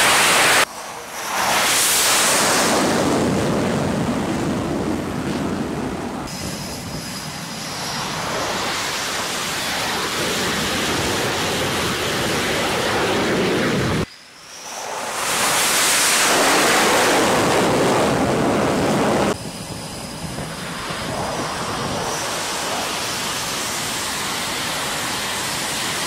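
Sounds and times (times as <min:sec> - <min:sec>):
faint high whine: 0:00.0 - 0:26.0
jet engine rushing: 0:00.0 - 0:26.0.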